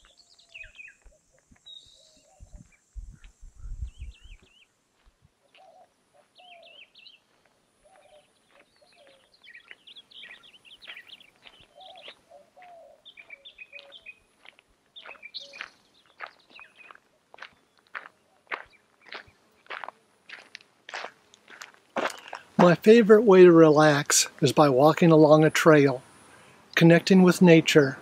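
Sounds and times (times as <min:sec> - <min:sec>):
birds singing and chirping: 0:00.0 - 0:04.7, 0:05.4 - 0:19.9, 0:21.0 - 0:28.0
footsteps on a dirt trail: 0:00.0 - 0:22.9.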